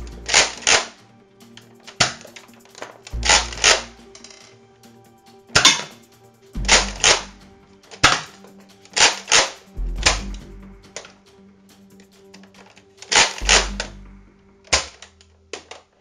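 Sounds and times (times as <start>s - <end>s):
faint music: 0.0s - 16.0s.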